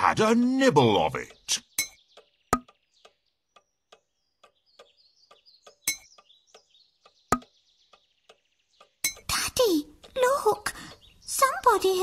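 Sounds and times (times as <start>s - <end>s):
clock ticking: 0.0s - 12.0s
faint bird chirps: 0.6s - 12.0s.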